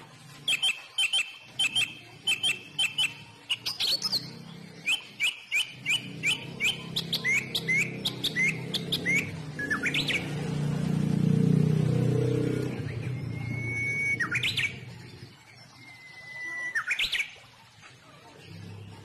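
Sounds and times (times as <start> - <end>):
small bird chirping: 0.4 - 10.6, 12.2 - 17.5.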